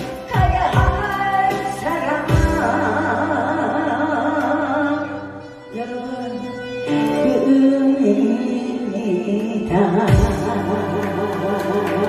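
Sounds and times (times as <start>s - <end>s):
instrumental accompaniment: 0.0s - 12.0s
woman singing with vibrato: 0.0s - 12.0s.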